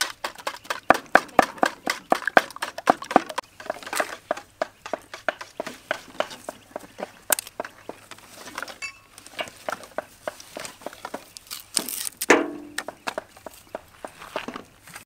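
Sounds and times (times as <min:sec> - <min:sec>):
sticks scraping metal fire pan: 0:00.0 - 0:12.8
firewood sticks knocking together: 0:00.0 - 0:13.9.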